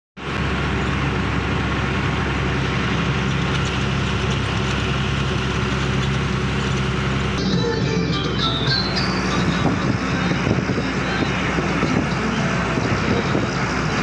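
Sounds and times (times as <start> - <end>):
truck engine running: 0.2 - 14.0.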